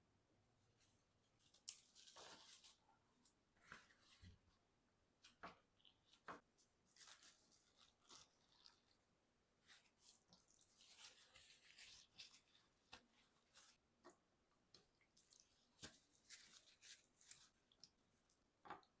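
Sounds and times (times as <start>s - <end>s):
rustles of handling food: 0.6s - 4.5s, 5.2s - 14.2s, 14.8s - 18.4s.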